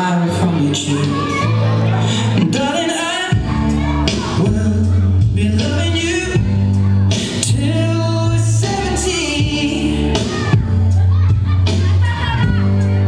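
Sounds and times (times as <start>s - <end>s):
person singing: 0.0s - 13.0s
slow pop song: 0.0s - 13.0s
sustained bass notes: 0.0s - 13.0s.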